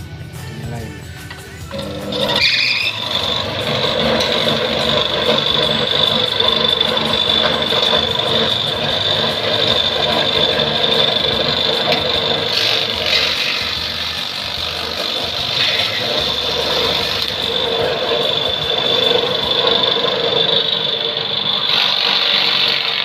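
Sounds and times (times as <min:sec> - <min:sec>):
electric motor hum with whine: 0:00.0 - 0:23.0
scratchy bursts: 0:01.0 - 0:23.0.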